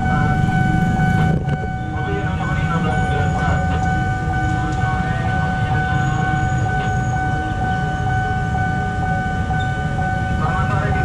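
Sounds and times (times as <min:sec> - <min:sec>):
level crossing alarm tone: 0:00.0 - 0:11.0
low rumble: 0:00.0 - 0:11.0.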